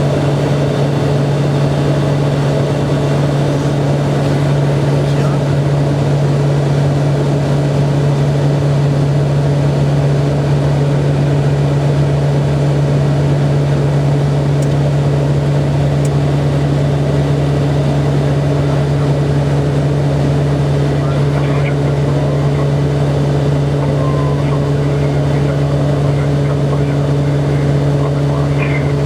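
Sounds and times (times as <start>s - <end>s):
turboprop propeller drone in cabin: 0.0s - 29.0s.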